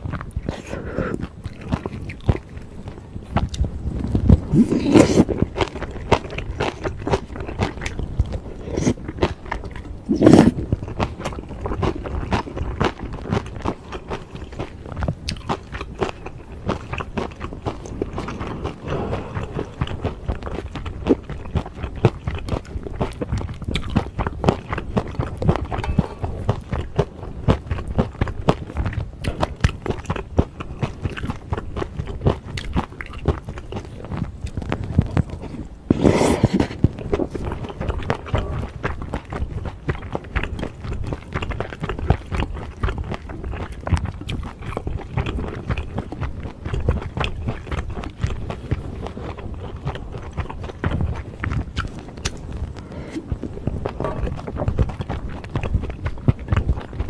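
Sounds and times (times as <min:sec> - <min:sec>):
person chewing with wet mouth sounds: 0:00.0 - 0:57.0.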